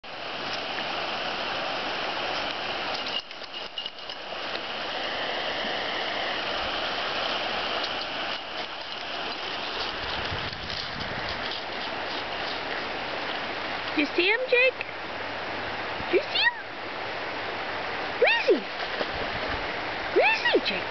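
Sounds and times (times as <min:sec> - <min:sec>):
river flowing over stones: 0:00.0 - 0:20.9.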